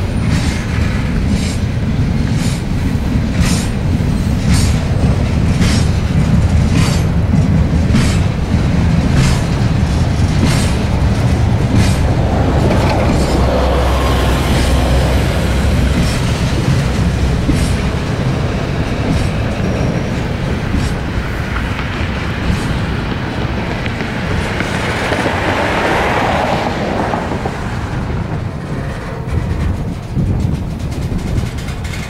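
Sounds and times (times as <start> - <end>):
train wheels rumbling and rattling: 0.0 - 32.0.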